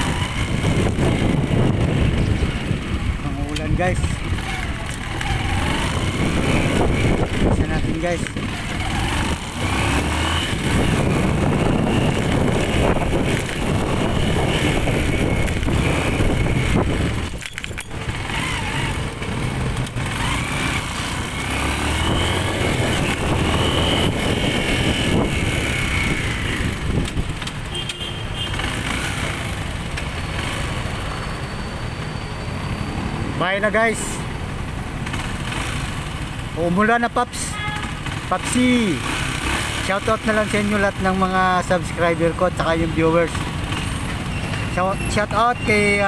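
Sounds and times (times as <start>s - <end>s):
motorcycle engine running: 0.0s - 31.4s, 33.9s - 46.0s
road and wind noise: 0.0s - 46.0s.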